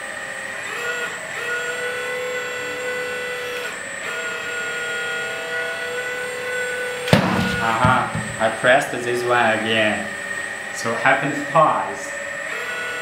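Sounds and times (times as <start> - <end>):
hydraulic pump whining: 0.4 - 13.0.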